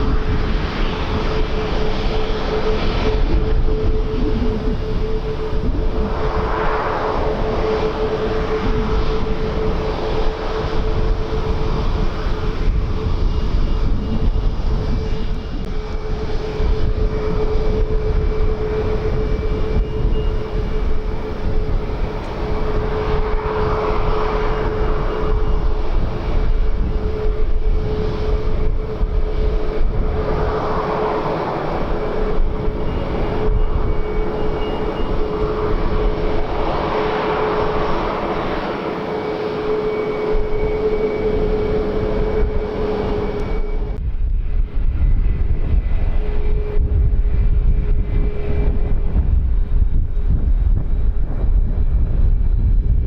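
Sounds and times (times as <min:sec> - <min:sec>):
aircraft engine whine: 0:00.0 - 0:53.0
wind rumble on microphone: 0:00.0 - 0:53.0.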